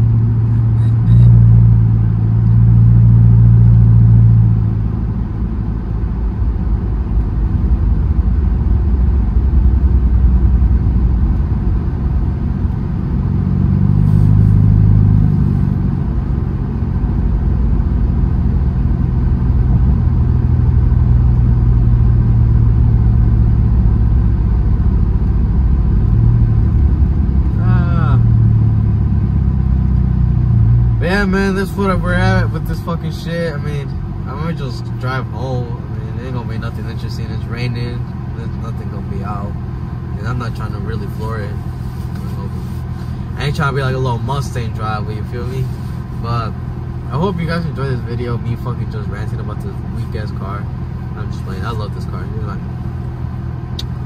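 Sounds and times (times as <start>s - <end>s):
car engine running: 0.0s - 54.0s
road noise: 0.0s - 54.0s.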